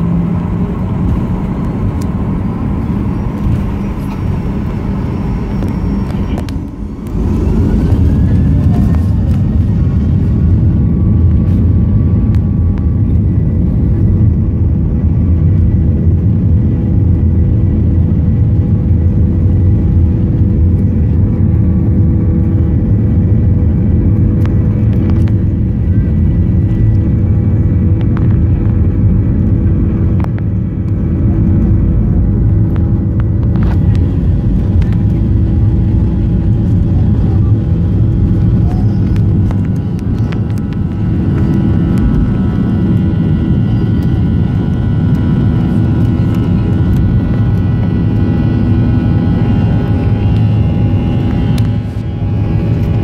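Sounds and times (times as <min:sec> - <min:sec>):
aircraft engines rumbling: 0:00.0 - 0:53.0.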